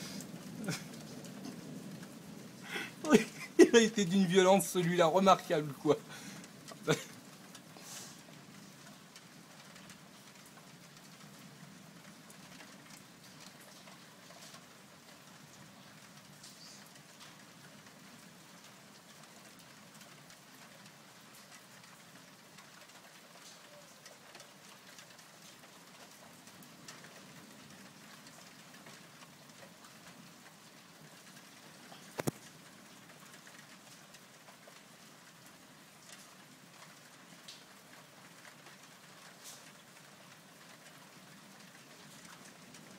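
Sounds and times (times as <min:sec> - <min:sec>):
faint steady rain: 0:00.0 - 0:42.9
raindrops ticking: 0:00.0 - 0:42.9.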